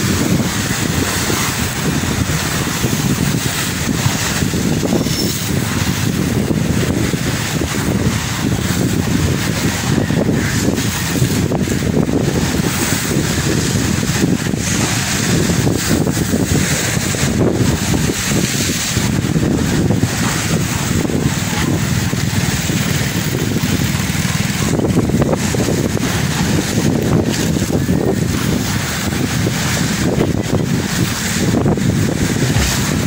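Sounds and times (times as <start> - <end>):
waves breaking against seawall: 0.0 - 33.0
wind buffeting microphone: 0.0 - 33.0.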